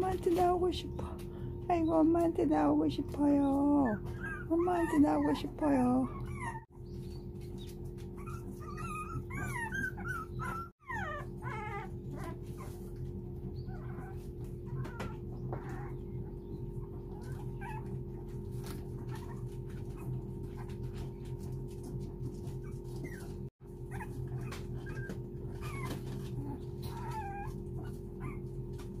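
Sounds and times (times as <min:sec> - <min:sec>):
puppies whimpering and whining: 0:01.0 - 0:21.5, 0:22.3 - 0:29.0.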